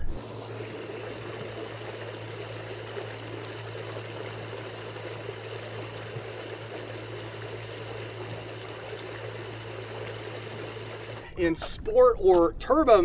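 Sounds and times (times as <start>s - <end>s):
water rushing along boat hull: 0.0s - 13.0s.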